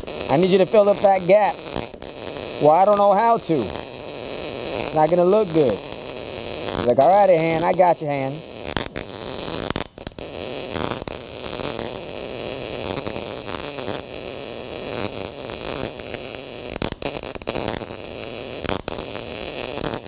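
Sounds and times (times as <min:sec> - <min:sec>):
welding arc crackling: 0:00.0 - 0:20.0.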